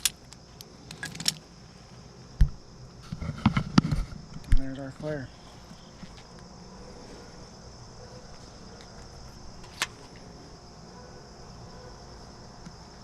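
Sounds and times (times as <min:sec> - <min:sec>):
constant high-pitched whine: 0:00.0 - 0:13.0.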